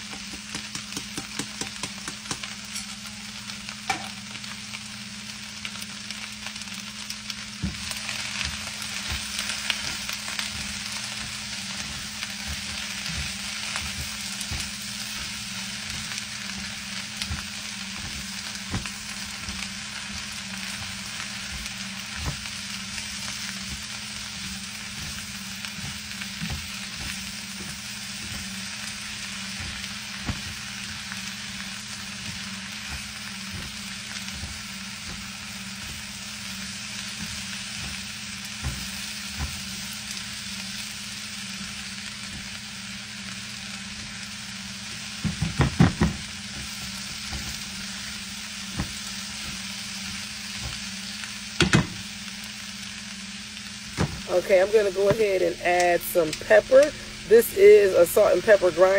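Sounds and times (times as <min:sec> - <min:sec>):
vegetables sizzling in oil: 0:00.0 - 0:58.9.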